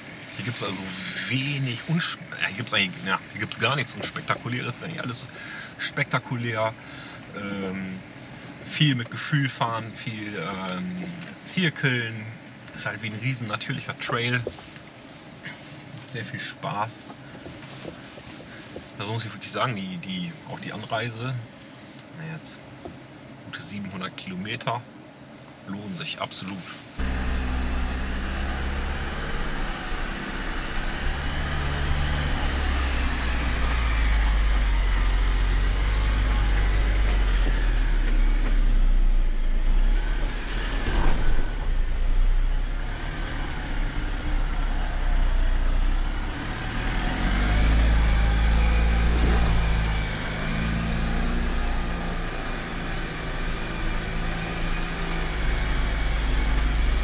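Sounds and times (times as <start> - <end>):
off-road vehicle engine rumbling: 0.0 - 57.0.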